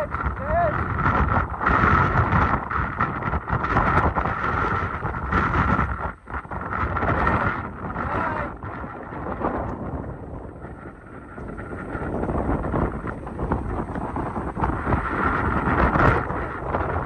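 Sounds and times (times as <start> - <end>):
strong wind gusts on microphone: 0.0 - 17.0.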